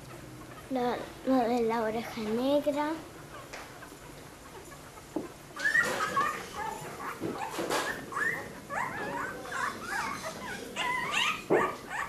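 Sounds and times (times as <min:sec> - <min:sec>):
puppies squeaking and whimpering: 0:00.1 - 0:01.0, 0:03.1 - 0:12.0.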